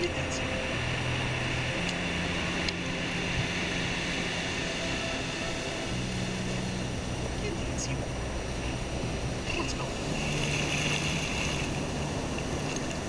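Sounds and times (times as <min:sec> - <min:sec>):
surf on a beach: 0:00.0 - 0:13.0
wind: 0:00.0 - 0:13.0.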